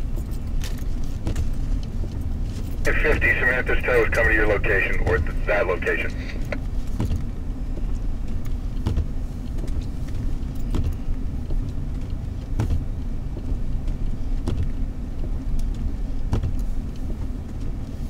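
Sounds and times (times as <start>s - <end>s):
engine and road rumble: 0.0s - 18.0s.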